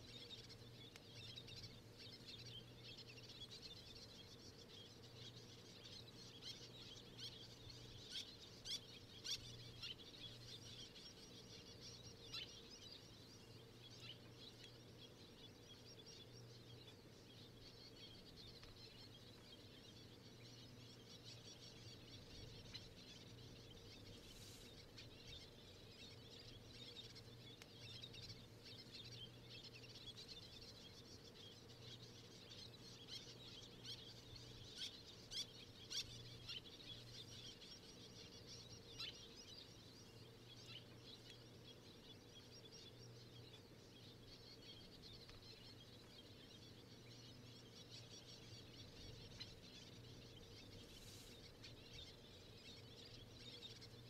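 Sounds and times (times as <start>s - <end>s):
distant birds chirping: 0.0s - 54.0s
steady low hum: 0.0s - 54.0s.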